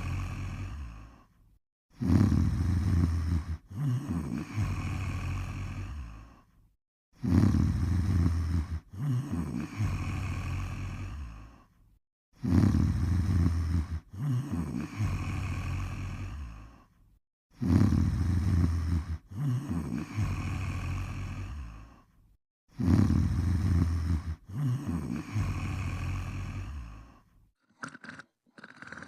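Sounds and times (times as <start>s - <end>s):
person snoring: 0.0s - 6.6s, 7.2s - 11.8s, 12.4s - 29.0s.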